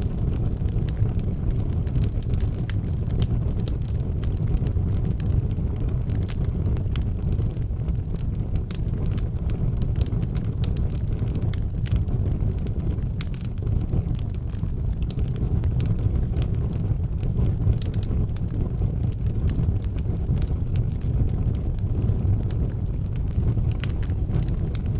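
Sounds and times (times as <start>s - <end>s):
fire crackling and popping: 0.0s - 24.9s
low roar of flames: 0.0s - 24.9s.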